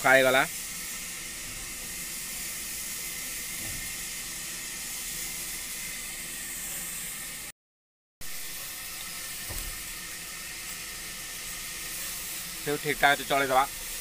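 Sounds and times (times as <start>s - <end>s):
steady hiss: 0.0s - 7.5s, 8.2s - 14.0s.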